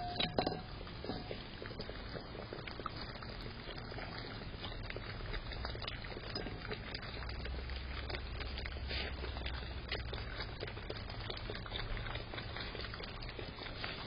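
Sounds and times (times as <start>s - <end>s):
animals eating and slurping: 0.0s - 14.0s.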